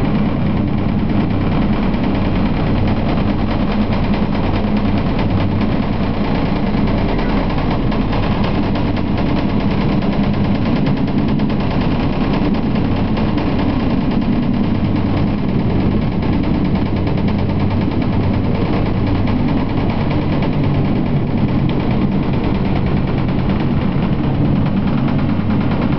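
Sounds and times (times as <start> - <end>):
helicopter rotor beating: 0.0 - 25.9.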